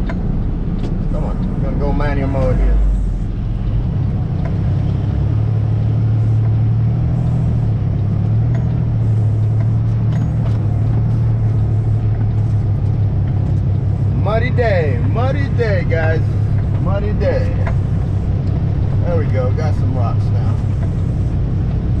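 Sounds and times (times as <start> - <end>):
truck diesel engine pulling hard: 0.0 - 22.0.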